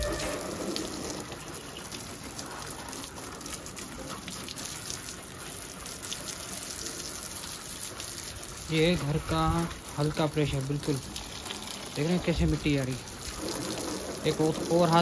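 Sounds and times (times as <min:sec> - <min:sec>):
hose water splashing on plastic: 0:00.0 - 0:15.0.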